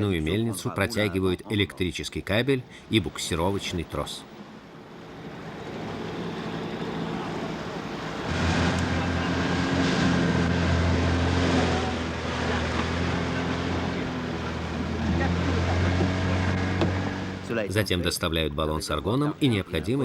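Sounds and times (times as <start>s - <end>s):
boat engine hum: 0.0s - 20.0s
water noise: 0.0s - 20.0s
wind: 0.0s - 20.0s.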